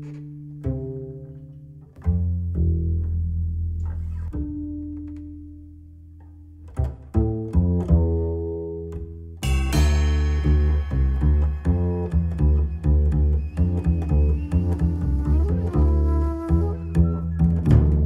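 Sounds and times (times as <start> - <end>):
deep ringing low notes music: 0.0 - 18.0.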